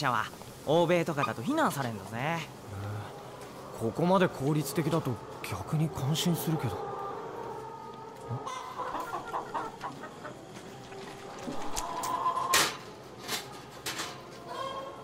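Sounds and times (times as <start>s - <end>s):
hens clucking: 0.7s - 15.0s.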